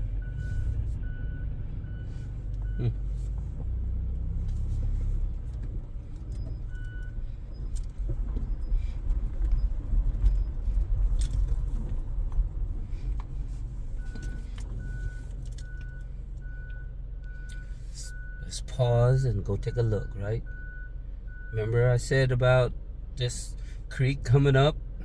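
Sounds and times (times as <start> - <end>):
vehicle rumbling: 0.0 - 25.0.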